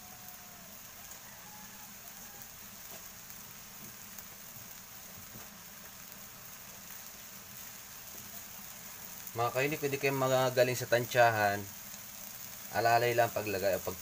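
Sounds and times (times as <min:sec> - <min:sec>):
food sizzling in a wok: 0:00.0 - 0:14.0.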